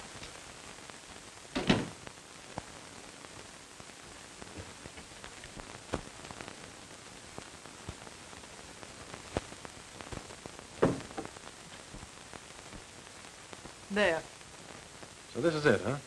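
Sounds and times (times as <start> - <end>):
old film soundtrack hiss: 0.0 - 16.0.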